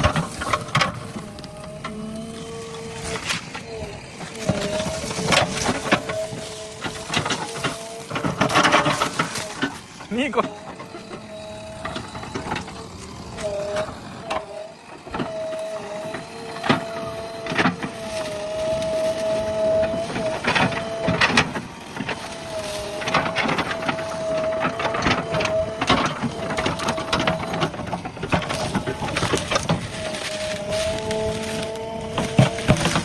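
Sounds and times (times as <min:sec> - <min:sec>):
backhoe loader whining: 0:00.0 - 0:33.0
wood cracking and snapping: 0:00.0 - 0:33.0.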